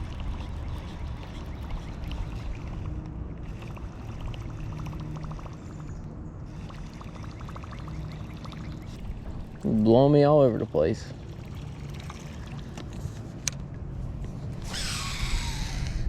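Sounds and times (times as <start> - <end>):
water lapping against hull: 0.0 - 13.2.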